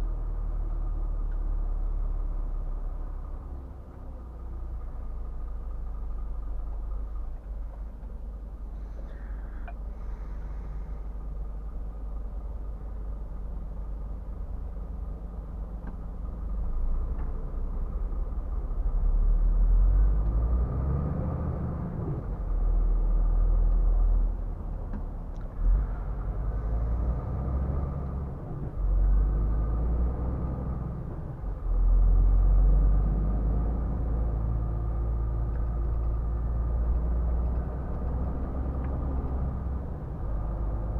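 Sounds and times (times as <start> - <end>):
truck driving on highway: 0.0 - 40.9.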